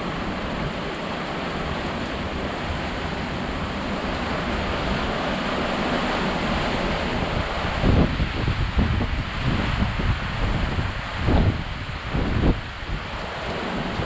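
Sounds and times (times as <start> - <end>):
heavy rain pouring: 0.0 - 14.0
wind: 0.0 - 14.0.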